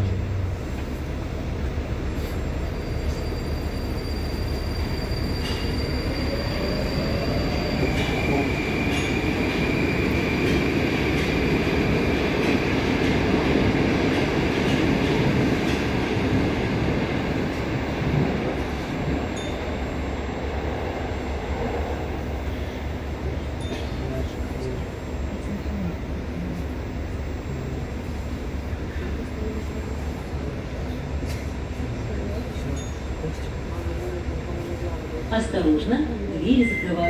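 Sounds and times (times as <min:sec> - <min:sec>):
train equipment hum: 0:00.0 - 0:37.0.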